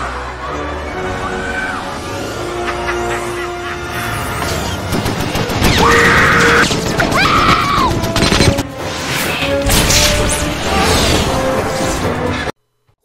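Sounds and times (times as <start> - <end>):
orchestral film score: 0.0 - 12.5.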